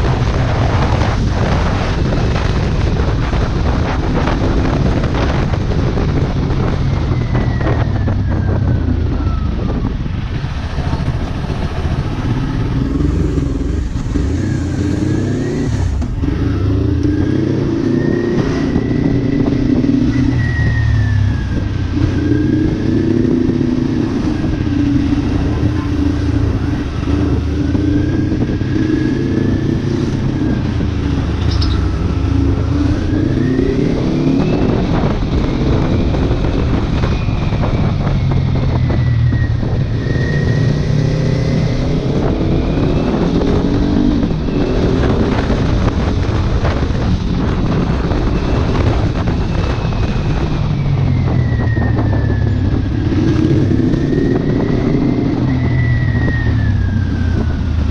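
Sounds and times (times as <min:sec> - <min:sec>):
motorcycle engine revving: 0:00.0 - 0:57.9
wind noise on microphone: 0:00.0 - 0:57.9.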